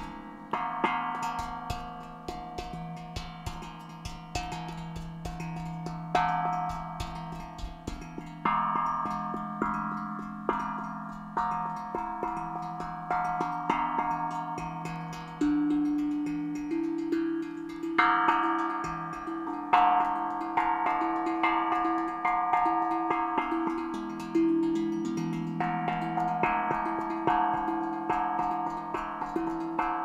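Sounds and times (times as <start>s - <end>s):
steel hand drum played with fingertips: 0.0s - 30.0s.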